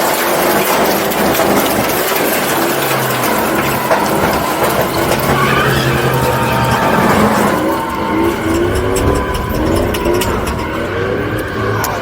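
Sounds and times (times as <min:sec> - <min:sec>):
truck engine revving high: 0:00.0 - 0:12.0
tyre noise rushing: 0:00.0 - 0:12.0.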